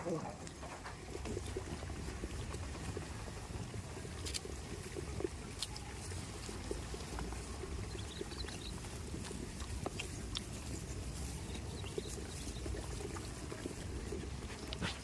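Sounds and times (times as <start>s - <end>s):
goats' hooves clicking and knocking: 0.0s - 15.0s.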